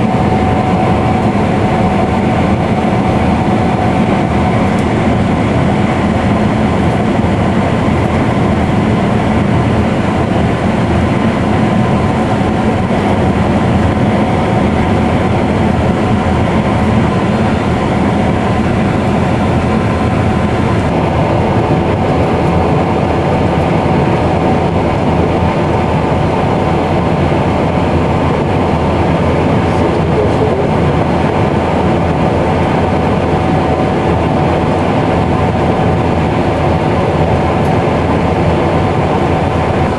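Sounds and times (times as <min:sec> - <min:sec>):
combine harvester rumbling: 0:00.0 - 0:39.9.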